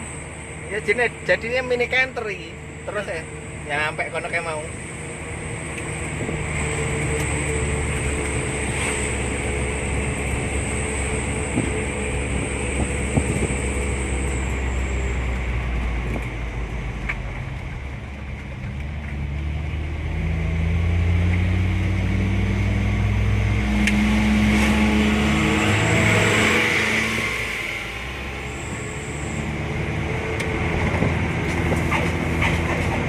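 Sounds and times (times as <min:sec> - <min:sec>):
pickup engine accelerating: 0:04.7 - 0:33.0.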